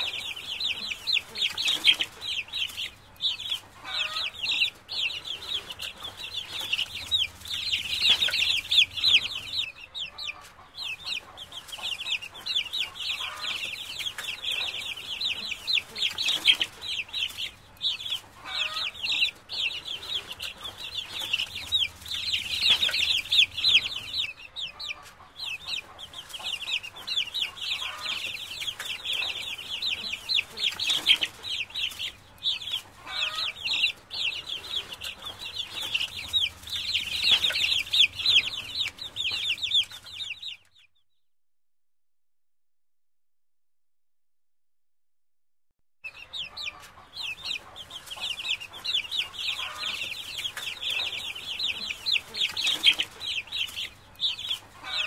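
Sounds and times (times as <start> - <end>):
ducklings peeping: 0.0 - 41.1, 46.0 - 55.0.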